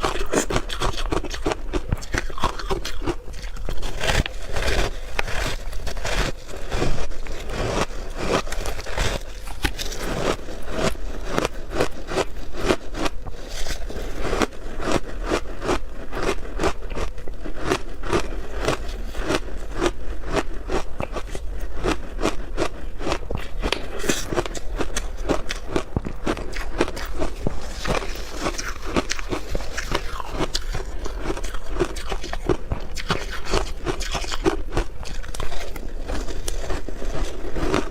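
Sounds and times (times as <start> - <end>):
ice crunching being chewed: 0.0 - 37.9
low steady hum: 0.0 - 37.9.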